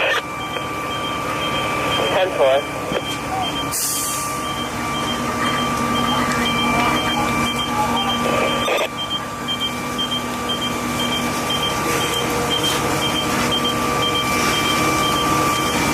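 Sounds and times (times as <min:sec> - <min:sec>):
electronic warning beeper: 0:00.0 - 0:15.9
machine hum with held tones: 0:00.0 - 0:15.9.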